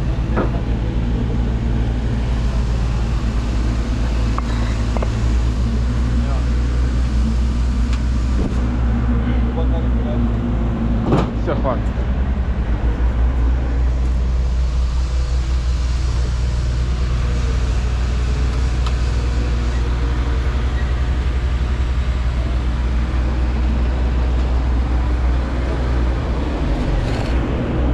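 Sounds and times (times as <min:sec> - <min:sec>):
low engine drone: 0:00.0 - 0:27.9.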